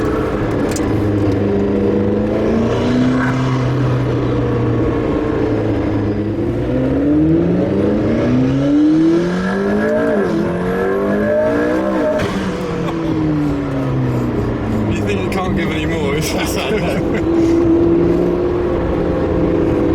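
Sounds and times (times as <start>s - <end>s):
car engine revving hard: 0.0s - 19.9s.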